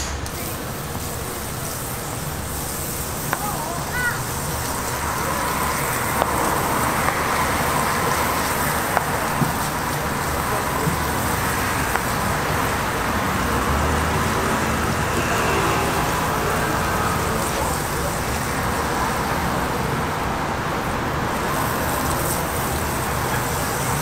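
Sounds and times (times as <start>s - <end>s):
butter sizzling on a griddle: 0.3s - 24.0s.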